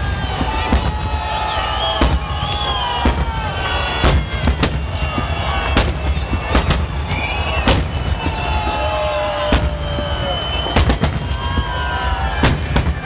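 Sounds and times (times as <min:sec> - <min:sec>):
firework bangs: 0:00.0 - 0:13.0.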